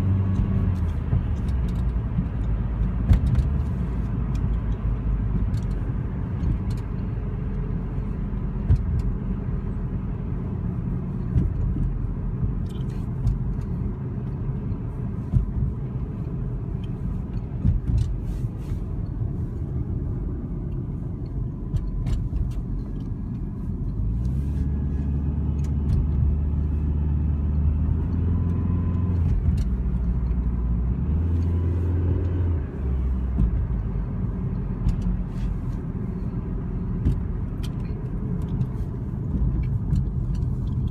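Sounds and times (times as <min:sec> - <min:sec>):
car engine rumbling: 0:00.0 - 0:40.9
faint engine whine: 0:00.0 - 0:40.9.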